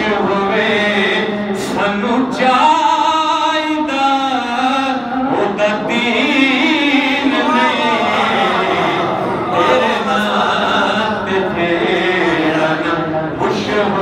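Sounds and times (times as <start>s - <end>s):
man singing devotional poem: 0.0s - 14.0s.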